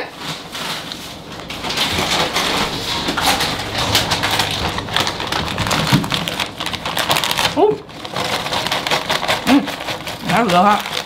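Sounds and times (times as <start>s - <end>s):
chip bag crinkling: 0.0s - 11.0s.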